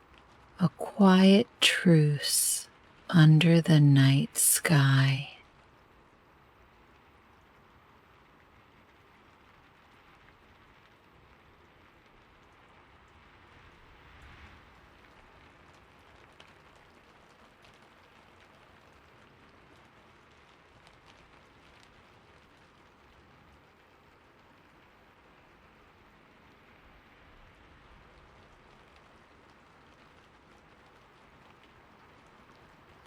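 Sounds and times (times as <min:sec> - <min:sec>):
raindrop ticks: 0:00.0 - 0:01.6, 0:06.4 - 0:33.0
faint rain: 0:00.0 - 0:33.0.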